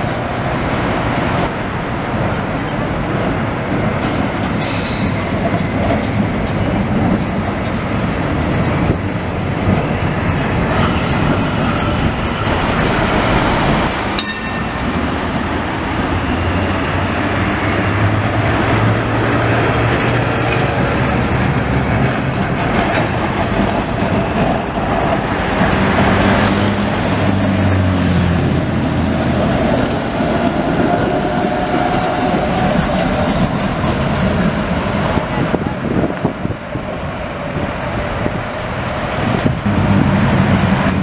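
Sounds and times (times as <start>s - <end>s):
passing cars: 0.0s - 41.0s
tram wheels rumbling on rails: 0.0s - 41.0s.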